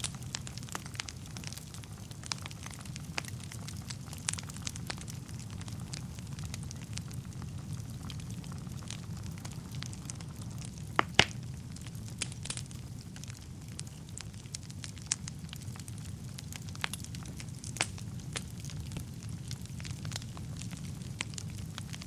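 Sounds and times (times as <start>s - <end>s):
fire crackles and pops: 0.0s - 22.0s
low rumble of flames: 0.0s - 22.0s.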